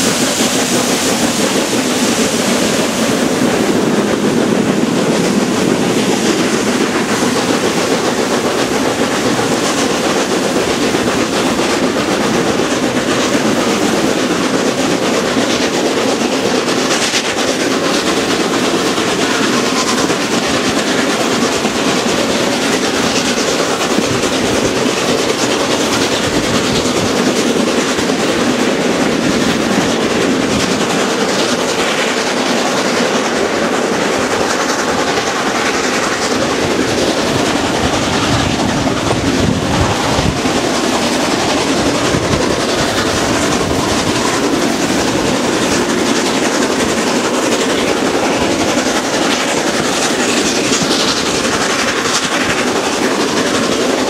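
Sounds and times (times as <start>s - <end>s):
steam locomotive exhaust thrash: 0.0s - 54.0s
train running noise: 0.0s - 54.0s.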